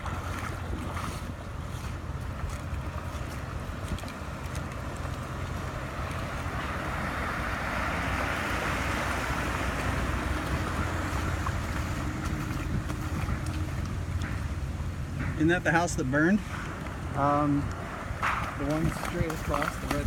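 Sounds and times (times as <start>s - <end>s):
vehicle rumbling and rushing: 0.0s - 20.0s.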